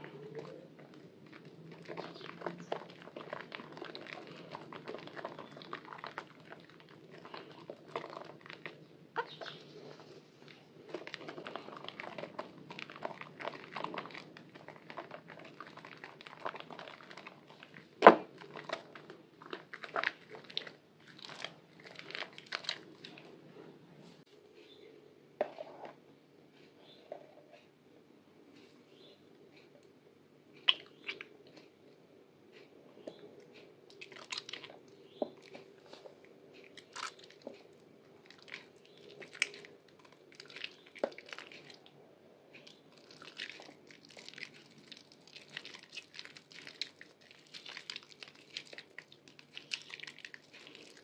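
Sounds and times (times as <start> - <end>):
wet soap squelching and crackling: 0.0 - 24.8, 30.5 - 31.8, 32.5 - 51.0.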